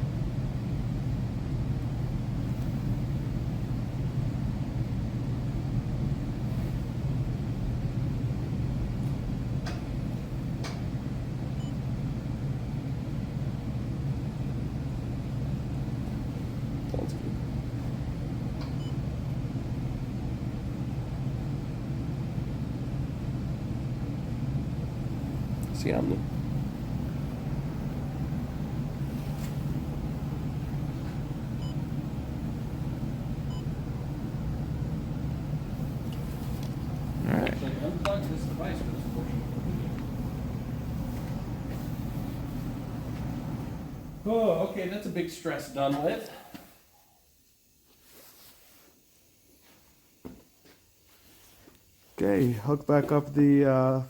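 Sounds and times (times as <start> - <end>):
low machine rumble: 0.0 - 45.5
low mechanical hum: 0.0 - 54.0.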